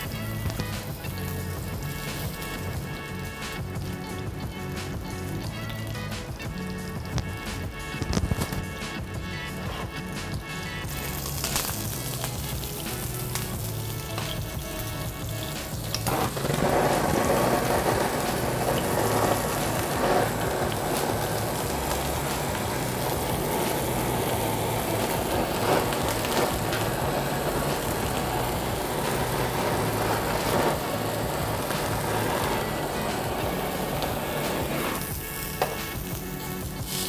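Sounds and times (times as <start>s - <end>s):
seafood sizzling in a frying pan: 0.0s - 8.6s, 10.0s - 37.0s
blowtorch flame hissing: 0.0s - 37.0s.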